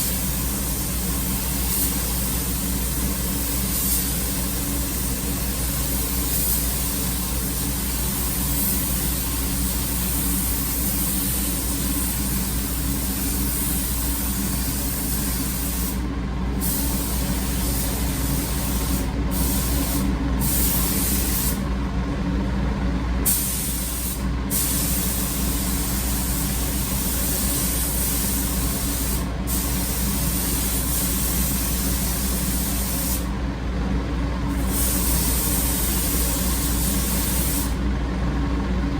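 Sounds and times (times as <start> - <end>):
paint spray gun hissing: 0.0 - 16.0, 16.6 - 21.6, 23.3 - 33.3, 34.6 - 37.8.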